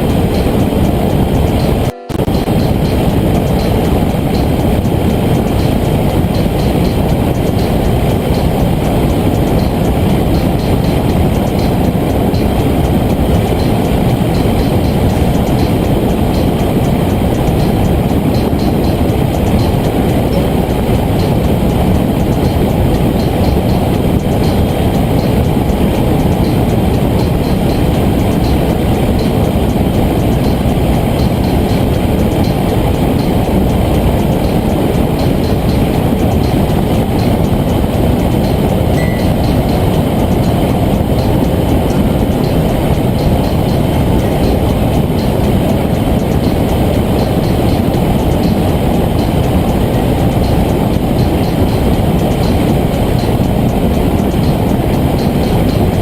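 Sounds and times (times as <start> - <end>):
fast regular ticking: 0.0 - 56.0.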